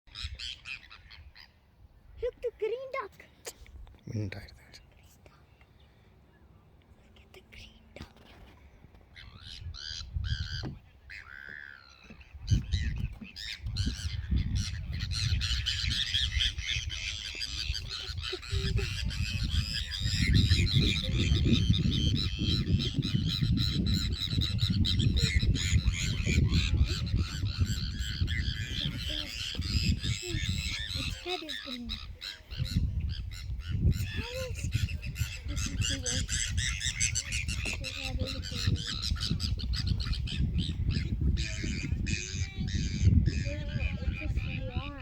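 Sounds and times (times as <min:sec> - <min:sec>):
waterfowl honking and squawking: 0:00.1 - 0:01.6, 0:09.2 - 0:45.0.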